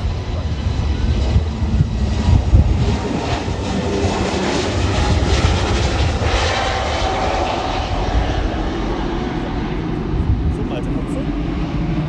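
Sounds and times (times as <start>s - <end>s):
airliner engines rumbling: 0.0s - 12.0s.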